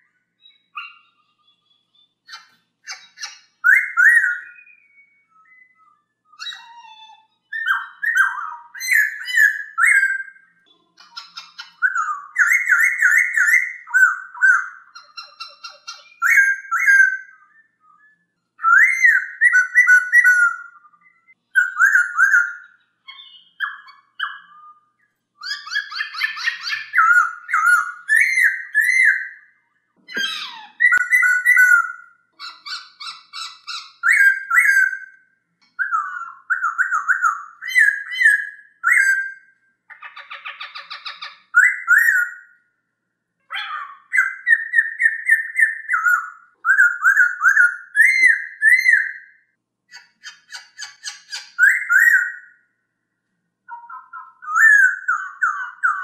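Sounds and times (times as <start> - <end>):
bird singing whistled notes: 0.0 - 39.6, 40.6 - 42.6, 43.5 - 52.7, 53.7 - 56.0
bird chirps: 0.0 - 42.9, 43.5 - 52.9, 53.6 - 56.0.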